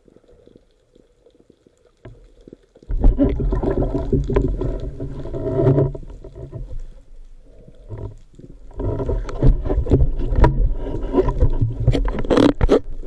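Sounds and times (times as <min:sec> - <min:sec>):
low underwater rumbling: 0:02.0 - 0:13.0.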